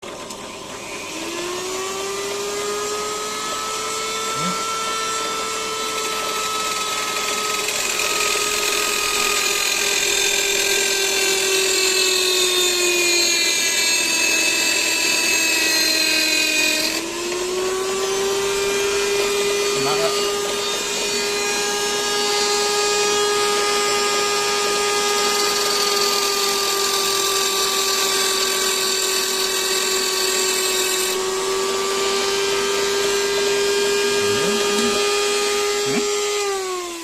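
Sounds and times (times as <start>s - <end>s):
power tool motor whining: 0.0s - 37.0s.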